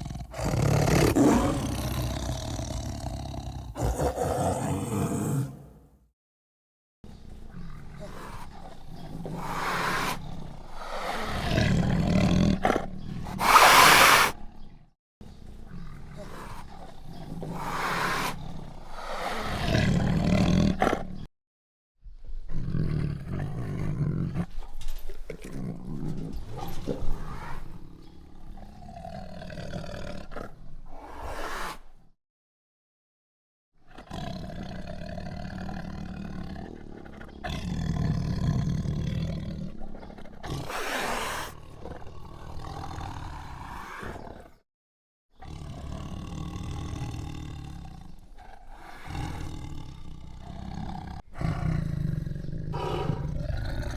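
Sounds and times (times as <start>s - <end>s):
tiger roaring and growling: 0.0s - 5.9s, 7.2s - 14.8s, 15.4s - 21.2s, 22.4s - 24.7s, 25.3s - 31.8s, 33.8s - 44.6s, 45.4s - 53.9s.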